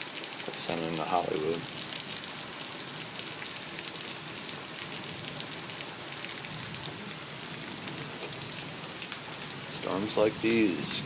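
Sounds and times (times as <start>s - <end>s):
heavy rain hissing: 0.0s - 11.0s
raindrop ticks: 0.1s - 11.0s.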